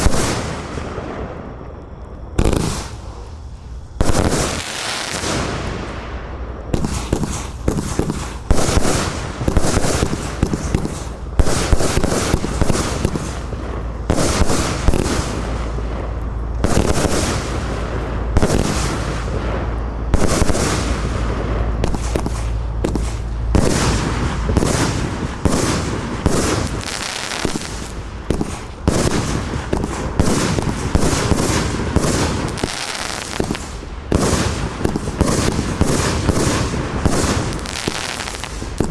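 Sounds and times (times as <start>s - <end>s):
low rumble: 0.0s - 37.8s
fireworks crackle: 0.0s - 38.9s
fireworks launch thumps and bursts: 2.4s - 3.3s, 6.7s - 38.9s.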